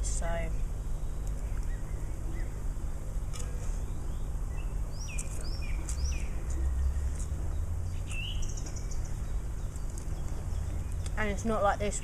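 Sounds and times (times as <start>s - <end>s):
low background rumble: 0.0s - 12.0s
small birds chirping: 0.0s - 12.0s.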